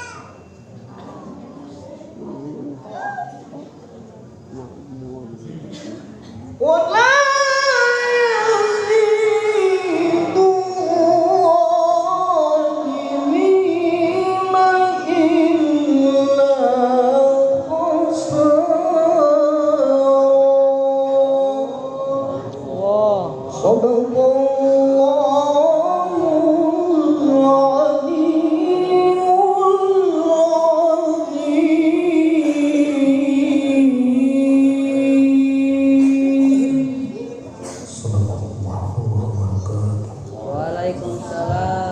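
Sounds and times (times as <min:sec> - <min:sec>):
person chanting melodically: 0:06.6 - 0:41.9.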